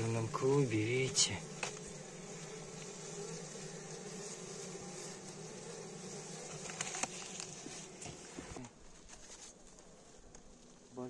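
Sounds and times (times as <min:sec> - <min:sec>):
bees humming: 0:00.0 - 0:11.0.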